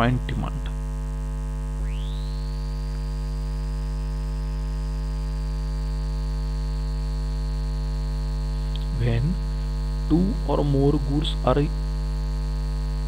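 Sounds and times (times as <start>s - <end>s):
low electrical mains hum: 0.0s - 13.0s
thin high whine: 0.0s - 13.0s.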